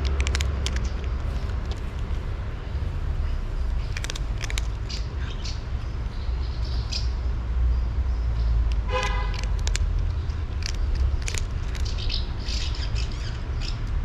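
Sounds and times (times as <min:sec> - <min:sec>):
small birds chirping: 0:00.0 - 0:08.9, 0:09.5 - 0:14.0
low traffic rumble: 0:00.0 - 0:14.0.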